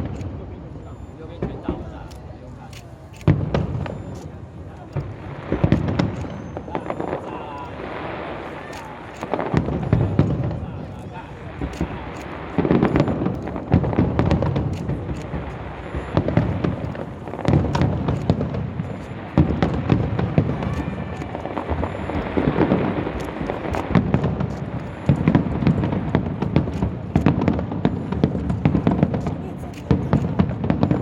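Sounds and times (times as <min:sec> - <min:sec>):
fireworks bangs and crackling: 0:00.0 - 0:31.0
fireworks booming bursts: 0:00.0 - 0:31.0.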